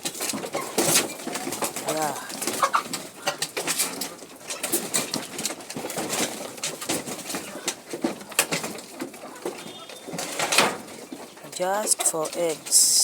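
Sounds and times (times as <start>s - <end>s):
hens cooing and clucking: 0.0s - 13.0s.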